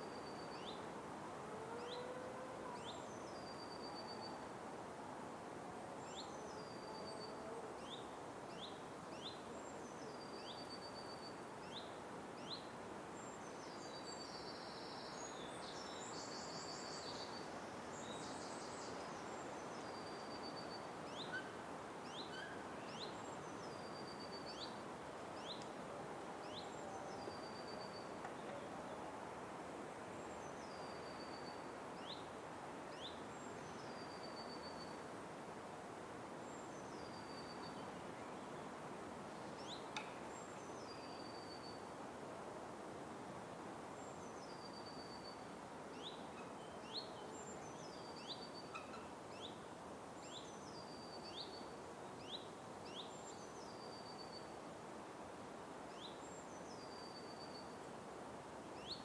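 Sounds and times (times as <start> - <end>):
steady forest hiss: 0.0 - 59.0.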